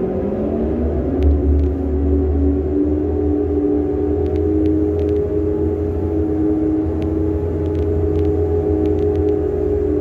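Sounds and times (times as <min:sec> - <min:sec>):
crane machinery droning: 0:00.0 - 0:10.0.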